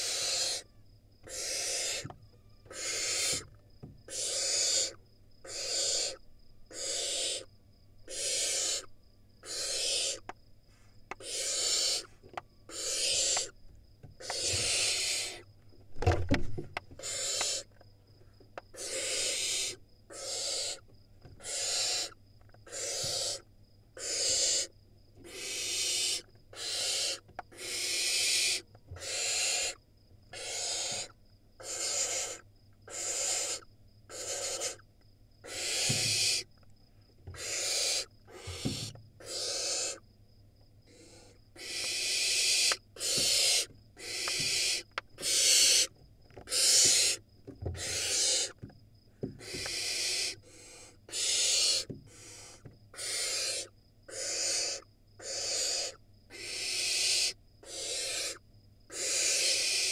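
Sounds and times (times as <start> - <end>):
owl nestlings screeching: 0.0 - 3.5, 4.1 - 7.5, 8.1 - 10.2, 11.2 - 12.1, 12.7 - 13.6, 14.2 - 15.4, 17.0 - 17.7, 18.7 - 20.8, 21.4 - 23.4, 24.0 - 34.8, 35.4 - 36.5, 37.3 - 40.0, 40.9 - 47.2, 47.8 - 48.6, 49.4 - 59.9.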